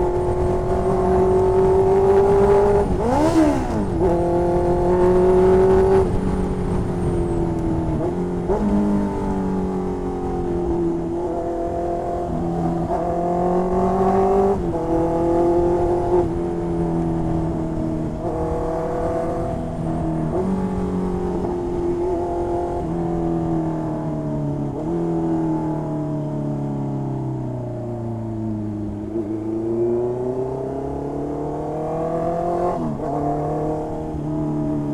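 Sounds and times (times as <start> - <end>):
motorcycle engine revving: 0.0 - 23.8, 28.9 - 34.9.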